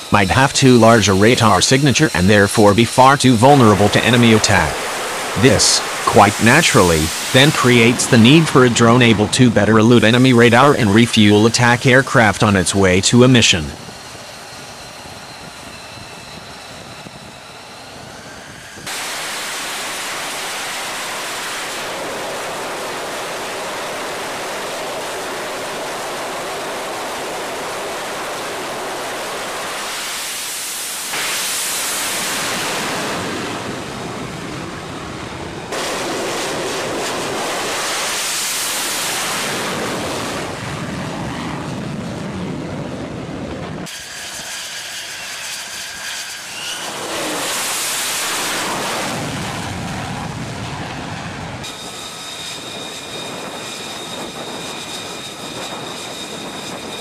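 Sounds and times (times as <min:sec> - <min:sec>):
jet engine whine: 0:00.0 - 0:57.0
loud rushing jet noise: 0:00.0 - 0:57.0.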